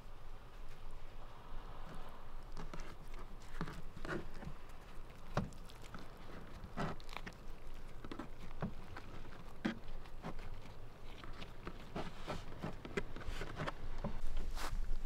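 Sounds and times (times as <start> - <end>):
tortilla rustling: 1.8 - 15.0.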